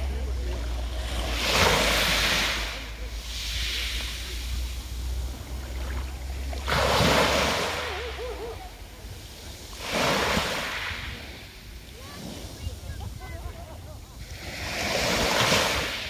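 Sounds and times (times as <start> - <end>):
waves washing on pebble beach: 0.0 - 16.0.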